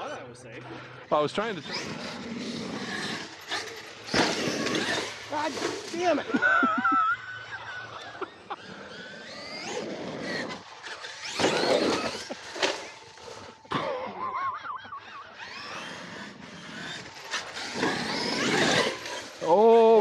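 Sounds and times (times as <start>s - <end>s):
electric motors whining: 0.0s - 20.0s
tyres on dirt: 0.0s - 20.0s.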